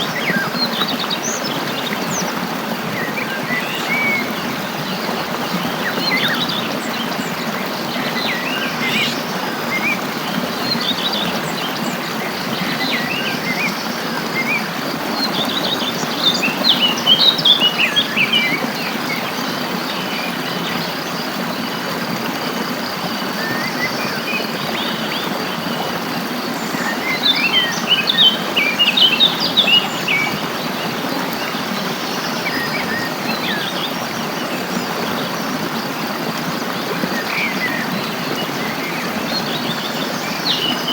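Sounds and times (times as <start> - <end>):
flowing water: 0.0 - 40.9.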